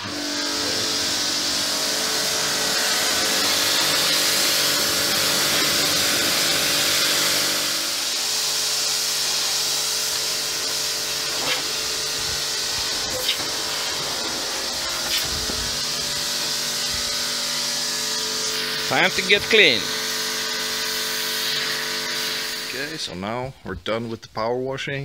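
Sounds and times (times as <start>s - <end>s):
pressure washer motor hum: 0.0s - 23.1s
water jet spraying hull: 0.0s - 23.1s.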